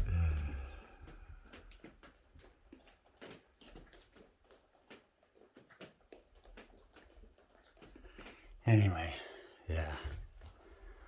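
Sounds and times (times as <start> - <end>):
faint light clicks and taps: 0.0 - 11.0.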